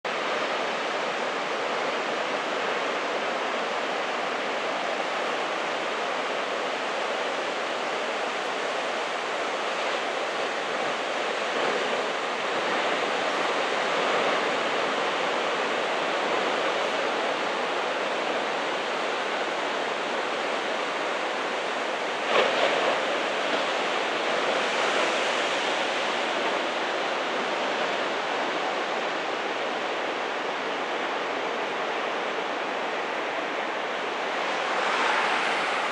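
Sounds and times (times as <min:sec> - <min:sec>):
ocean surf breaking: 0:00.1 - 0:35.9.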